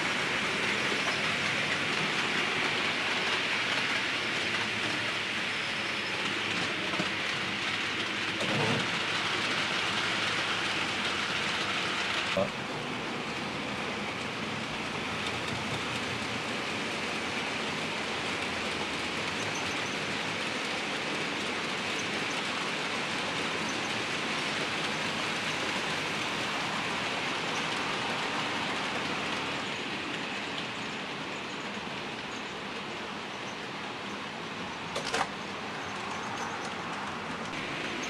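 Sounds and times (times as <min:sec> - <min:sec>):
model train rolling on rails: 0:00.0 - 0:38.0.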